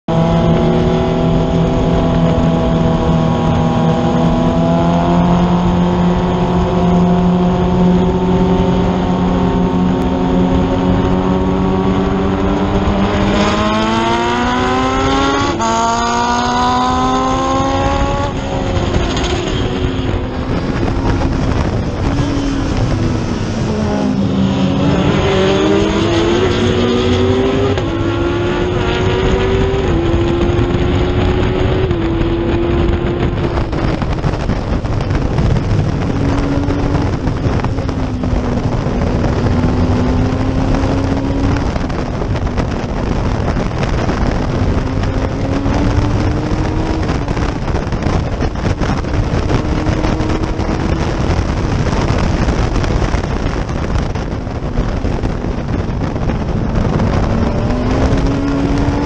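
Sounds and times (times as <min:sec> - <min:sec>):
race car engine at high revs: 0:00.0 - 0:59.0
road noise: 0:00.0 - 0:59.0
wind noise: 0:00.1 - 0:59.0.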